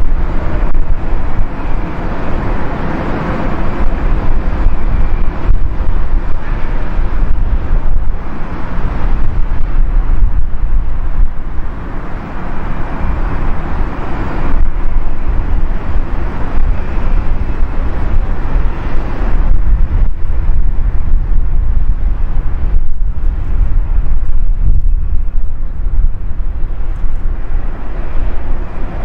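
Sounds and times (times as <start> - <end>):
jet engine roar: 0.0 - 29.0
wind buffeting microphone: 0.0 - 29.0.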